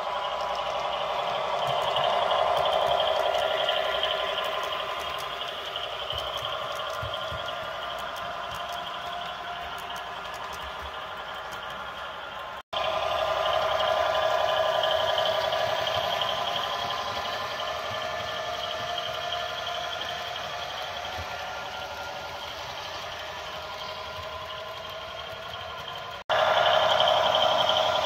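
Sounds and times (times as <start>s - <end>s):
model train wheels whirring on rails: 0.0s - 28.0s.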